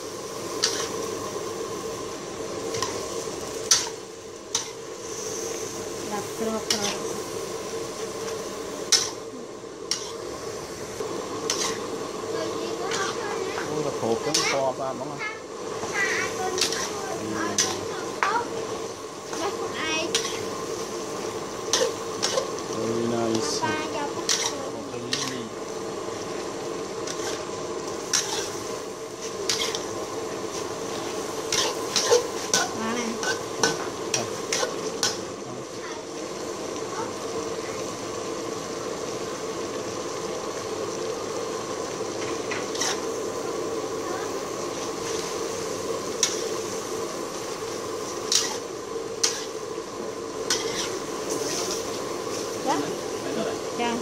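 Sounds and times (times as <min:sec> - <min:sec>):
spatula scraping in a wok: 0:00.0 - 0:14.7, 0:15.7 - 0:35.9, 0:42.1 - 0:43.5, 0:44.2 - 0:53.2
food sizzling in a wok: 0:00.0 - 0:54.0.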